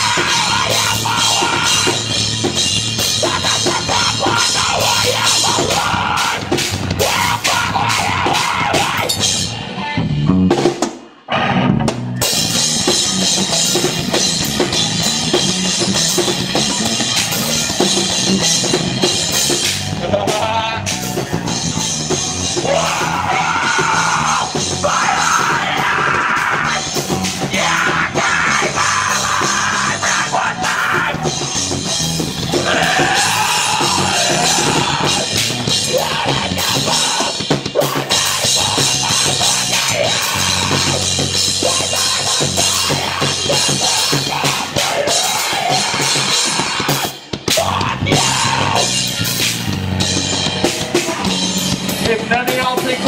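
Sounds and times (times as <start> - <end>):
yelled vocals: 0.0 - 10.6, 11.2 - 53.0
heavy rock band playing: 0.0 - 53.0.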